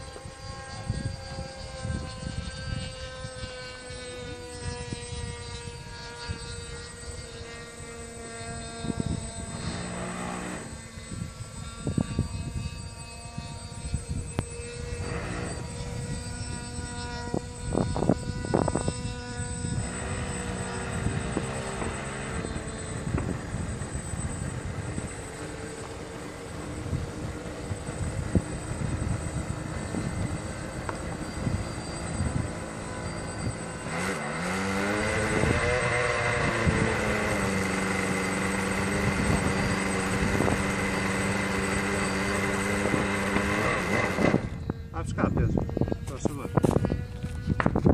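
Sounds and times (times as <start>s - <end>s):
drone propellers buzzing: 0.0s - 47.9s
wind rumble on microphone: 0.0s - 47.9s.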